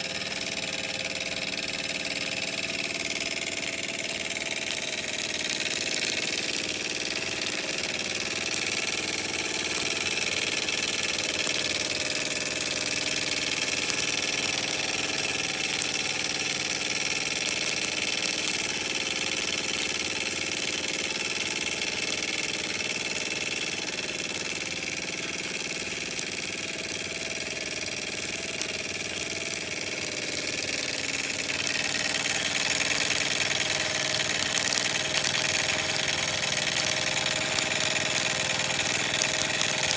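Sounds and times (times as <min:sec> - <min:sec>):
miniature steam engine running: 0:00.0 - 0:39.9.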